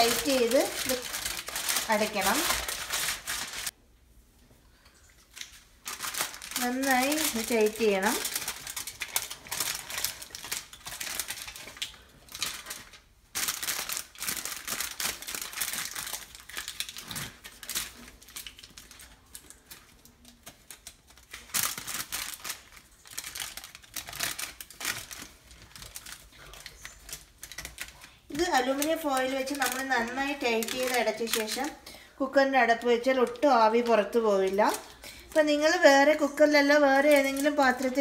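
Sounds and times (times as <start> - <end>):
aluminium foil crinkling: 0.0 - 3.8, 5.1 - 32.0, 32.6 - 38.0.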